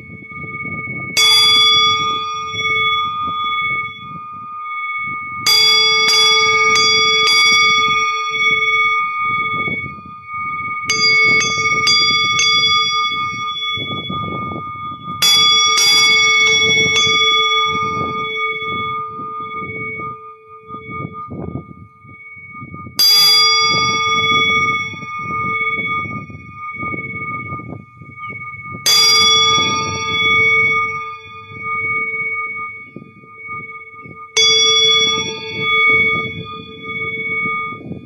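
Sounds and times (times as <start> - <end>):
metal bells struck: 0.0 - 21.8, 23.0 - 38.0.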